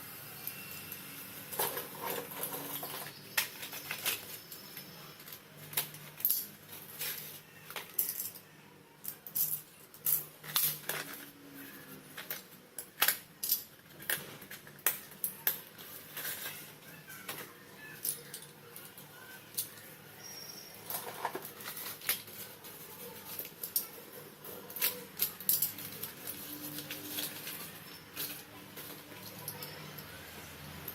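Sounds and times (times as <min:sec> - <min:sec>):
slate pencils clicking and cracking: 0:00.4 - 0:30.9.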